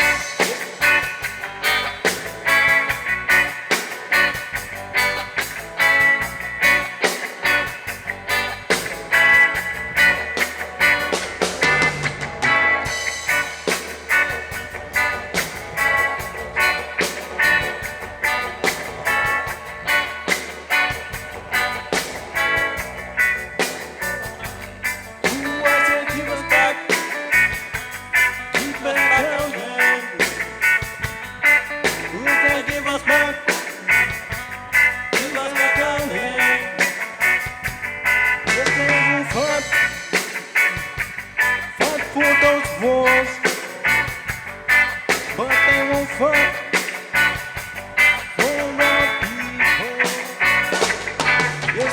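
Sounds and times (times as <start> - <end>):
drums keeping steady beat: 0.0 - 51.9
reggae band playing: 0.0 - 51.9.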